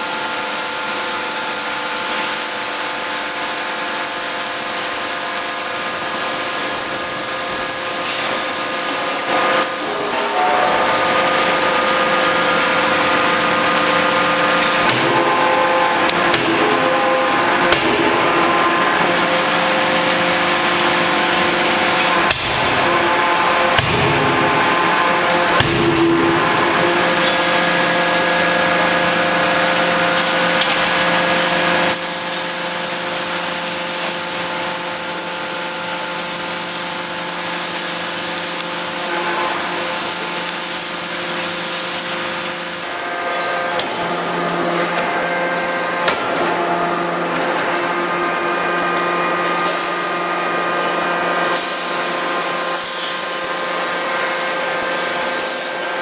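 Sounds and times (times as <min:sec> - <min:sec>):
forging machinery humming: 0:00.0 - 0:52.4.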